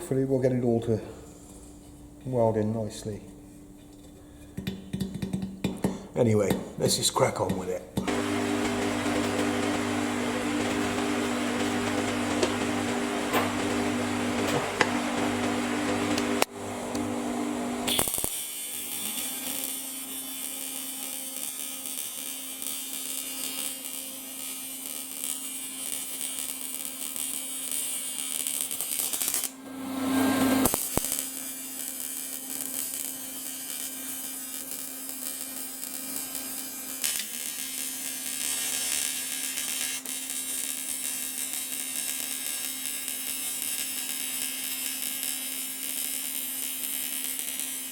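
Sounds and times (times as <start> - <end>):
welding arc buzzing: 8.0 - 47.9.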